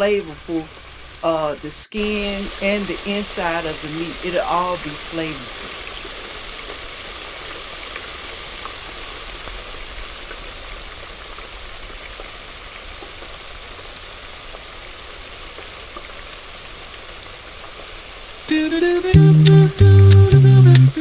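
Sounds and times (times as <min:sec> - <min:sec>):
oil bubbling and sizzling: 0:00.3 - 0:01.2, 0:02.0 - 0:21.0.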